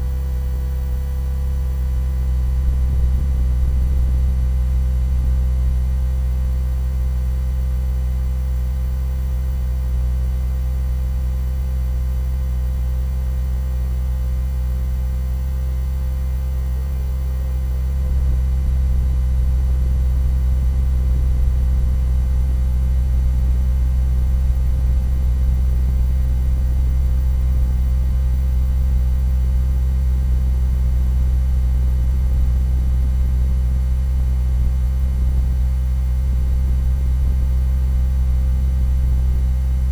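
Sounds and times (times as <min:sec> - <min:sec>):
loud steady low hum: 0:00.0 - 0:39.9.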